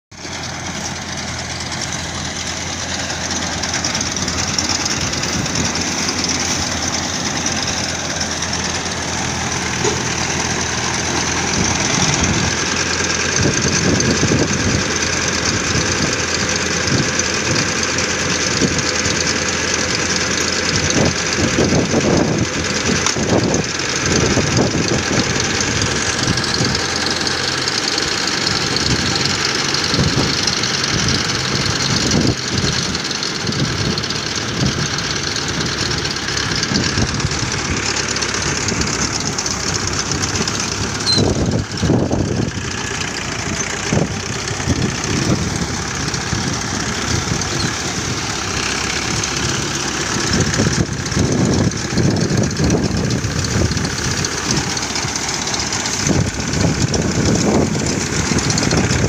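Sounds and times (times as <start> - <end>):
tractor diesel engine running: 0.0 - 59.0
baler clattering and rattling: 0.3 - 17.7, 18.3 - 59.0.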